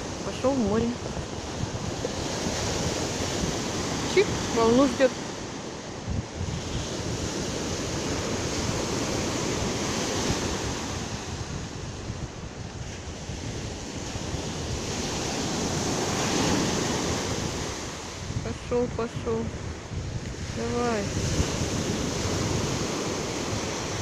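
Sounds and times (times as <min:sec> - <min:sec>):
sea surf washing onto shore: 0:00.0 - 0:24.0
wind buffeting microphone: 0:00.0 - 0:24.0.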